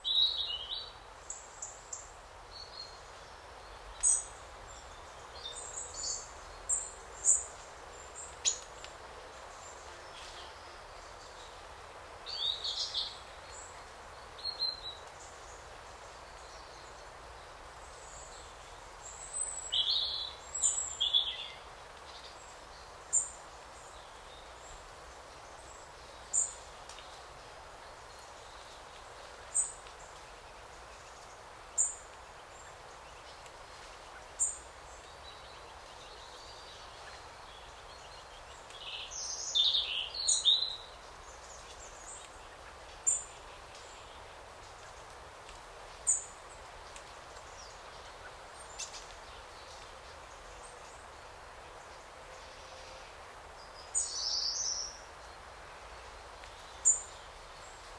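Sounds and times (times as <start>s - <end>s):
forest birds singing: 0.0s - 57.9s
soft background hiss: 0.0s - 57.9s.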